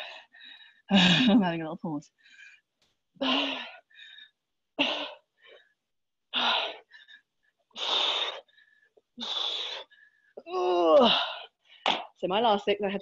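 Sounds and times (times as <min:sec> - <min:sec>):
woman breathing hard: 0:00.0 - 0:01.3, 0:02.1 - 0:11.9.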